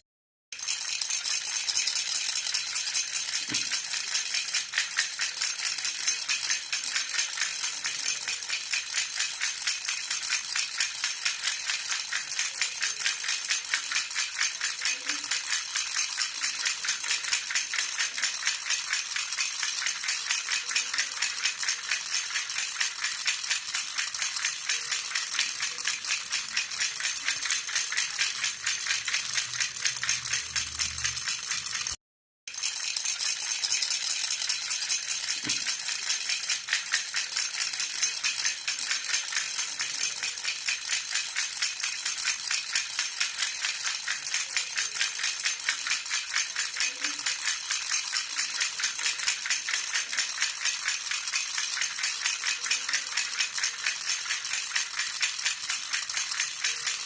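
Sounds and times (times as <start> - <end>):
baby rattle jingling: 0.6 - 57.0.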